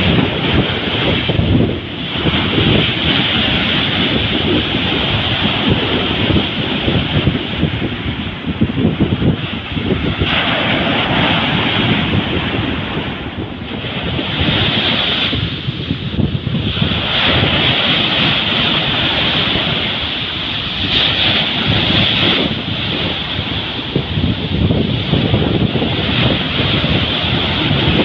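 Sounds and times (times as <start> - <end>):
surf washing up beach: 0.0 - 28.0
wind buffeting microphone: 0.0 - 28.0.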